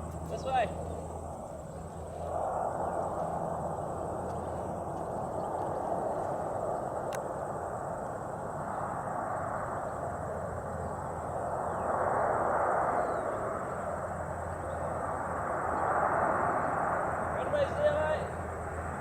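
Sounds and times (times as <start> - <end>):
distant aircraft engine drone: 0.0 - 19.0.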